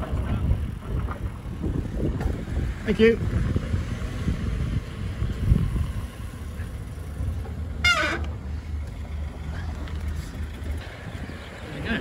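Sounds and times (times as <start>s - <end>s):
bike rolling on tarmac: 0.0s - 12.0s
van engine running: 1.5s - 11.7s.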